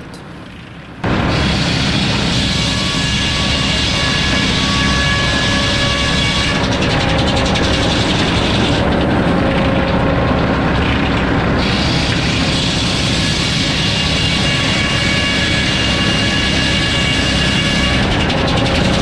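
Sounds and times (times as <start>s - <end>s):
machinery noise: 0.0s - 19.0s
circular saw whine: 0.8s - 19.0s.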